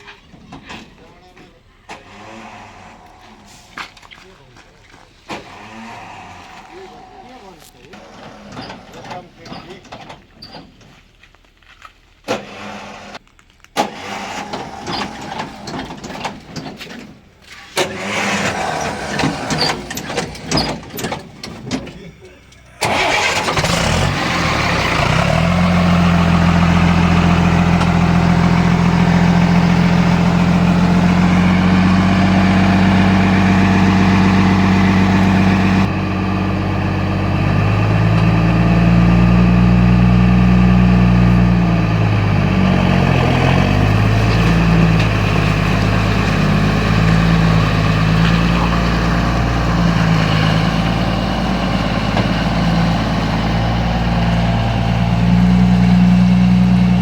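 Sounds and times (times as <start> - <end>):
excavator diesel engine running: 0.0 - 10.8, 13.8 - 57.0.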